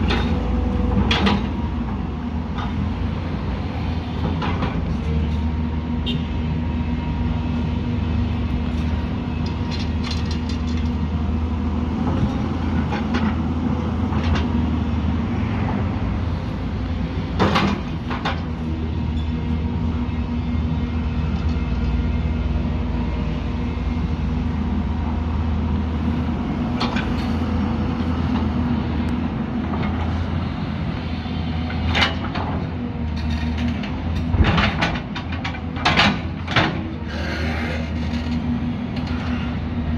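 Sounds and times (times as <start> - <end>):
heavy machine diesel engine: 0.0 - 39.9.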